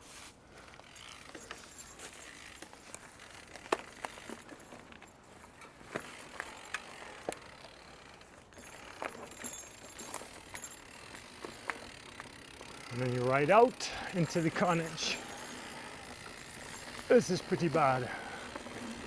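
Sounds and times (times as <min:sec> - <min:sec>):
bike chain clicking and rattling: 0:00.5 - 0:19.0.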